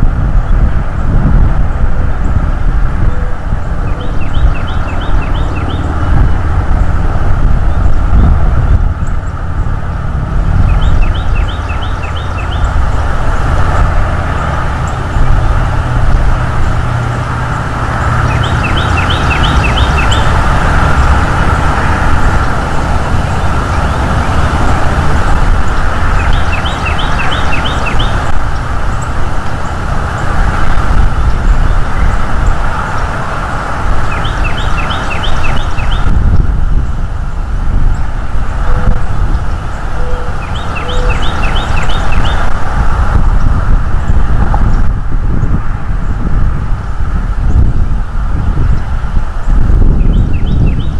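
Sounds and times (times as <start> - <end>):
songbird singing: 0.0 - 43.8, 44.6 - 50.9
loud steady low rumble: 0.0 - 50.9.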